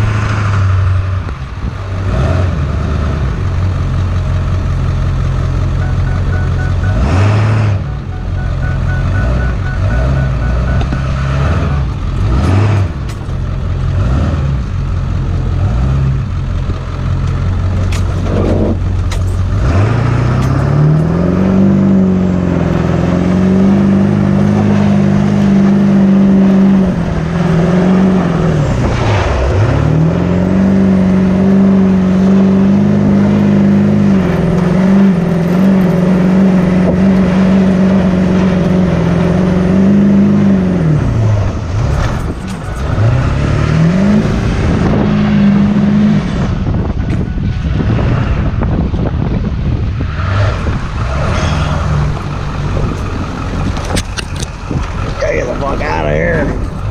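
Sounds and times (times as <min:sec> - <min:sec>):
truck diesel engine revving: 0:00.0 - 0:56.9.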